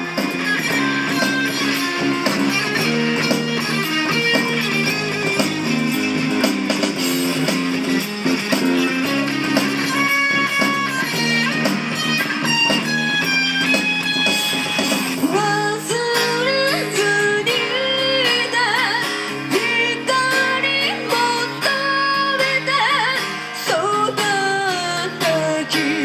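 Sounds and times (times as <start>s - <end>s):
amplified guitar strumming: 0.0s - 26.0s
pop backing track: 0.0s - 26.0s.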